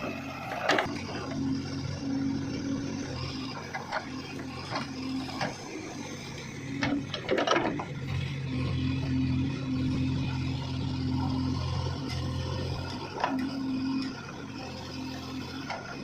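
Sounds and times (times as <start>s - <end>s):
diesel engine of heavy machinery: 0.0s - 16.0s.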